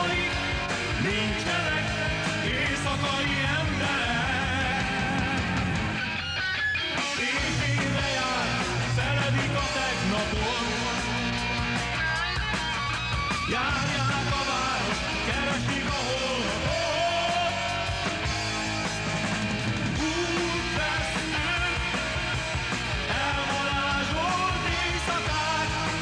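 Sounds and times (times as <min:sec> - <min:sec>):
drums: 0:00.0 - 0:26.0
electric guitar: 0:00.0 - 0:26.0
rock band playing: 0:00.0 - 0:26.0.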